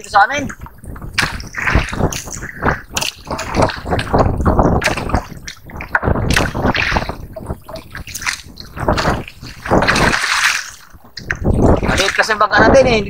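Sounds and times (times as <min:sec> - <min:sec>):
water sloshing around a boat: 0:00.0 - 0:13.0
wind rumbling on microphone: 0:00.0 - 0:13.0.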